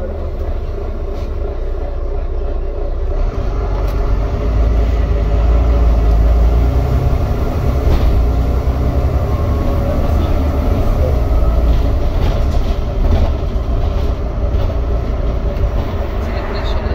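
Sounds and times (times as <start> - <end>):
diesel bus engine drone: 0.0 - 16.9
road and body noise: 0.0 - 16.9.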